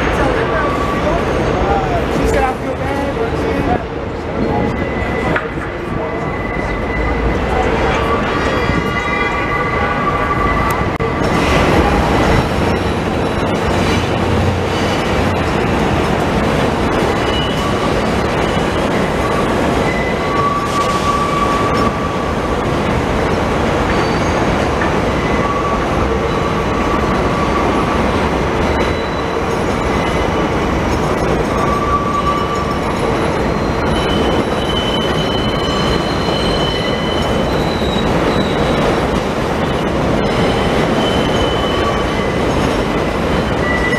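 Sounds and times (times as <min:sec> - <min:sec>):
train wheels rumbling on rails: 0:00.0 - 0:43.9
wheels squealing: 0:04.2 - 0:43.9.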